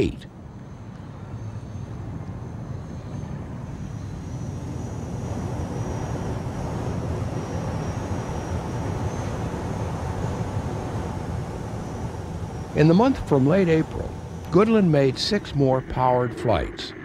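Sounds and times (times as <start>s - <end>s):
airplane flying low: 0.0s - 17.0s
faint high-pitched whine: 0.0s - 17.0s.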